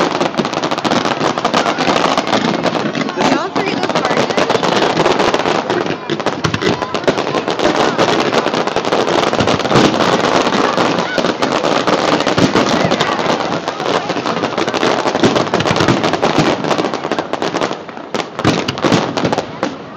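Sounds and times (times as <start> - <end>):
fireworks crackling and popping: 0.0 - 19.9
people's voices: 0.0 - 19.9.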